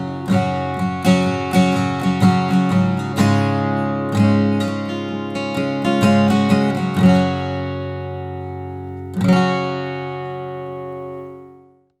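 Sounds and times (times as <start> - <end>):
acoustic guitar strummed chord: 0.0 - 11.9
acoustic guitar picked chord notes: 0.0 - 12.0.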